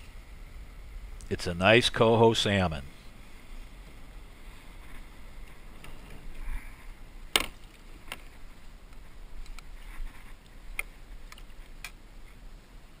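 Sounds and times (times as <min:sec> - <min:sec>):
light wind: 0:00.0 - 0:13.0.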